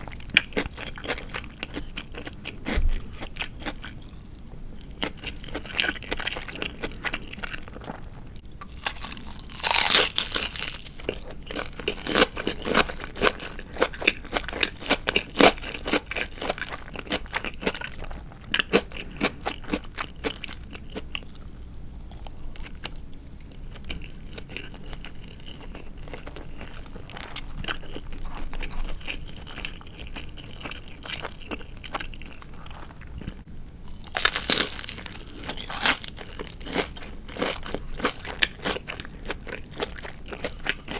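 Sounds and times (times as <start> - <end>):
crunchy biting and chewing: 0.0 - 40.9.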